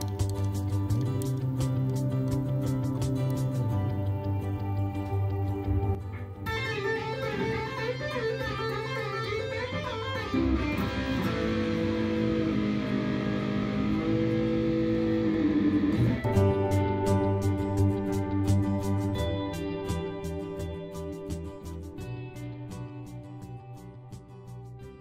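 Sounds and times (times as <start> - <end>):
background music with steady beat: 0.0 - 25.0
electric guitar chords: 0.0 - 25.0.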